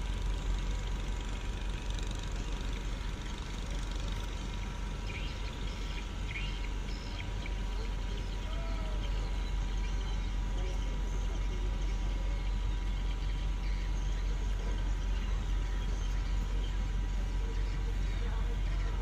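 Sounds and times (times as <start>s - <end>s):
heavy diesel engines idling: 0.0s - 19.0s
faint voices: 1.6s - 19.0s.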